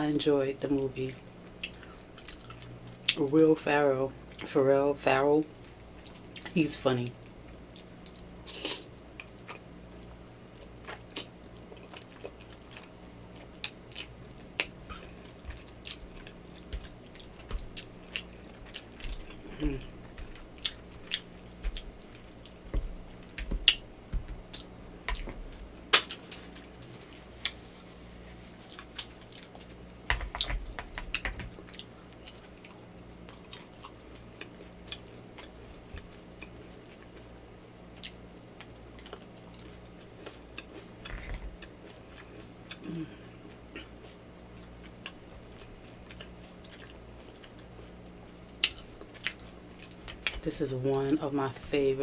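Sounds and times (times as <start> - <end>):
person chewing noodle soup: 1.4 - 2.7, 7.7 - 30.5, 31.1 - 37.3, 38.0 - 50.4.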